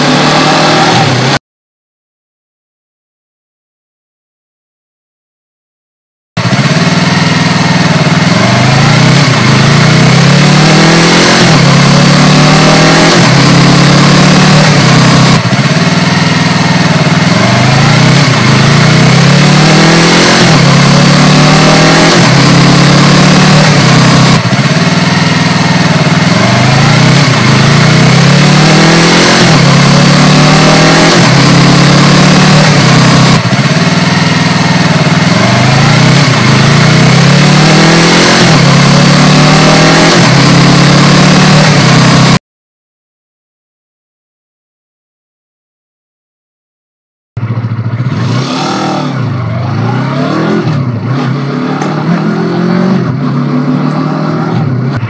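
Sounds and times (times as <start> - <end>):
motorcycle engine accelerating: 0.0 - 1.4, 6.4 - 42.4, 47.4 - 55.0.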